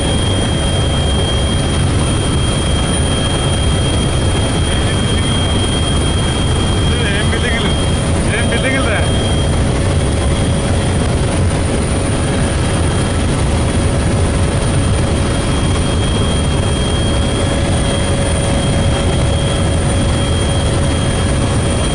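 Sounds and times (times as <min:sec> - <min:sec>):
helicopter rotor and engine drone: 0:00.0 - 0:21.9
high whine: 0:00.0 - 0:21.9.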